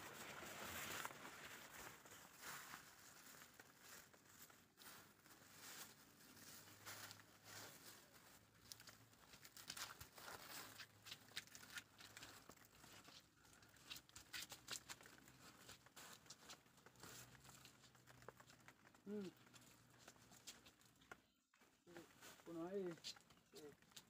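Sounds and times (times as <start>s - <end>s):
faint rustling and scraping: 0.0s - 24.0s.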